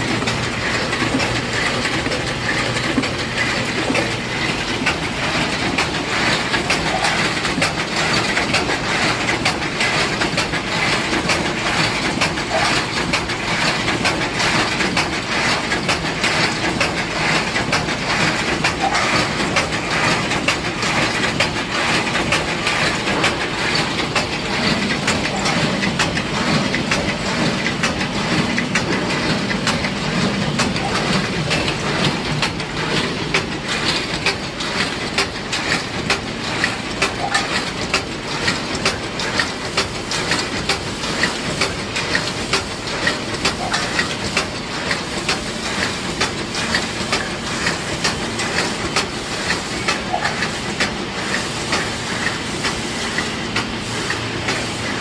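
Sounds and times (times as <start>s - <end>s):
low machine hum: 0.0s - 55.0s
machinery rattling clatter: 0.0s - 55.0s.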